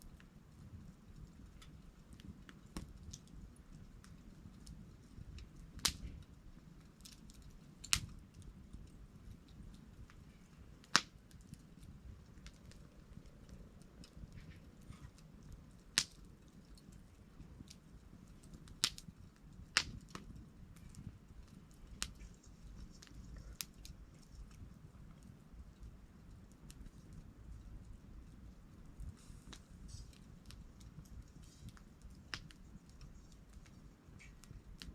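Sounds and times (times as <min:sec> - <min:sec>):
campfire crackling and popping: 0:00.0 - 0:34.9
low rumble of burning: 0:00.0 - 0:34.9.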